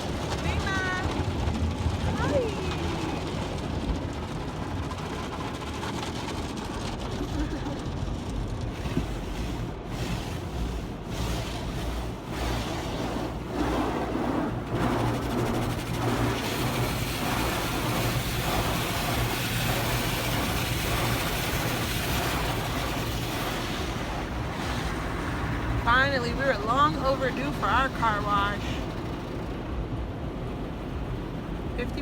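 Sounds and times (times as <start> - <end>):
low machinery hum: 0.0 - 32.0.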